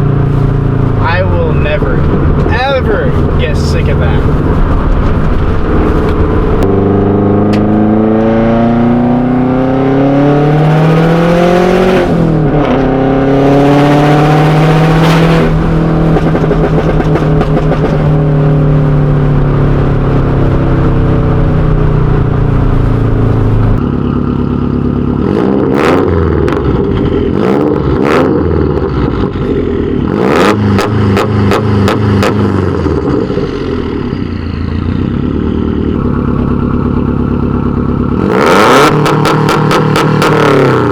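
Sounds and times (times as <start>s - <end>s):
exhaust cracks: 0.0s - 8.3s, 10.6s - 40.9s
car engine revving: 0.0s - 40.9s.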